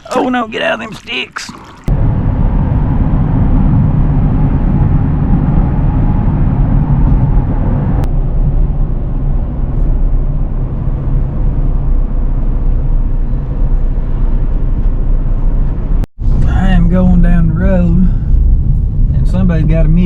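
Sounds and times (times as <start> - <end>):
vehicle rumble from inside: 1.9 - 20.0.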